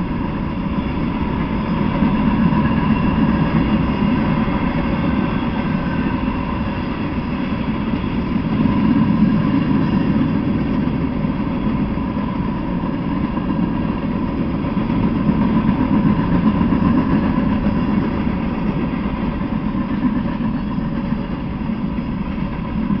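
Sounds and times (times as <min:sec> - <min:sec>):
freight train cars rolling past: 0:00.0 - 0:23.0.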